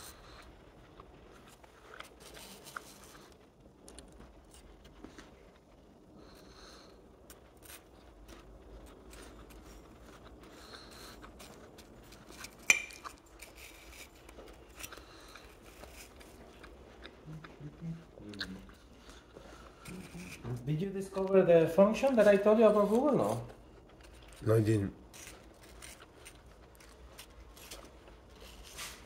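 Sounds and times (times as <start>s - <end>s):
person chewing crisp apple: 0.0s - 29.0s.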